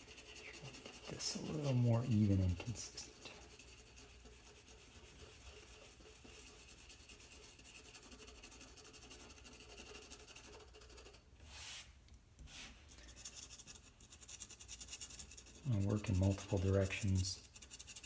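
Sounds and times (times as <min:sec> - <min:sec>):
charcoal pencil scratching on paper: 0:00.0 - 0:11.9, 0:12.5 - 0:18.0.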